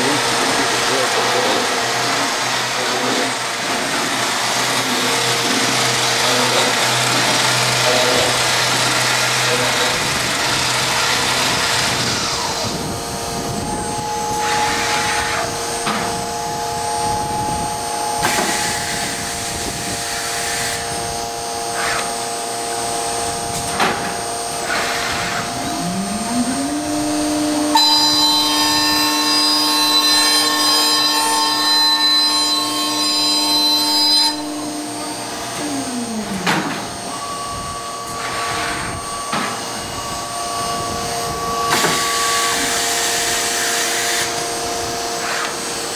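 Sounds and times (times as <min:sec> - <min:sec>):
machine hum: 0:00.0 - 0:45.9
motor whine: 0:00.0 - 0:45.9.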